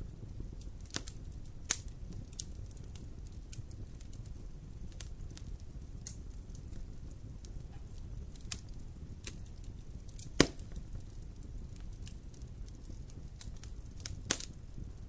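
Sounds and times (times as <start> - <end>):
low rumble of flames: 0.0 - 15.0
wood fire crackling: 0.0 - 15.0
loud pop from fire: 0.8 - 4.2, 4.9 - 12.2, 12.8 - 14.6.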